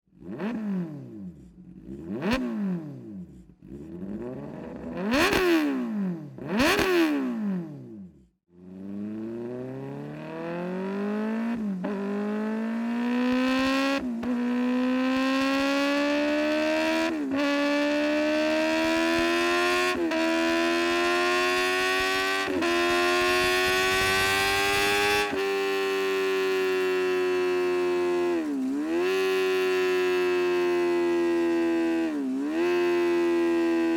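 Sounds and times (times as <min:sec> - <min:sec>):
motorcycle accelerating through gears: 0:00.1 - 0:33.9.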